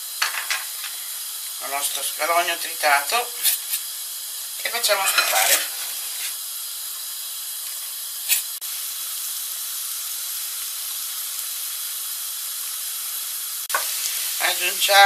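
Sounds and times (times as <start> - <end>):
butter sizzling in frying pan: 0.0 - 15.0.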